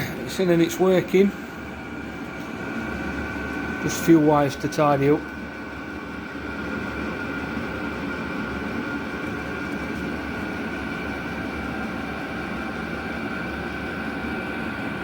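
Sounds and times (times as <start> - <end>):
blower fan whine: 0.0 - 15.0
heater combustion rumble: 0.0 - 15.0.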